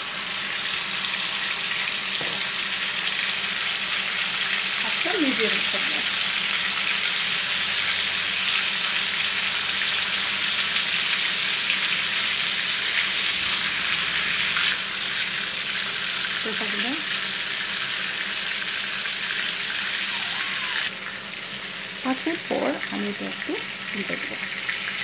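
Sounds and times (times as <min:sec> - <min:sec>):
meat sizzling in oil: 0:00.0 - 0:25.0.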